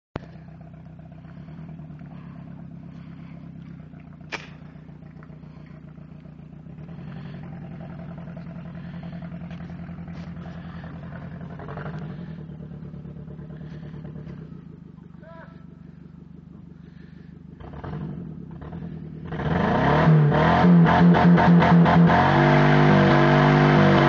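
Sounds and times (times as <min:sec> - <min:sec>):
car engine running: 0:00.2 - 0:24.0.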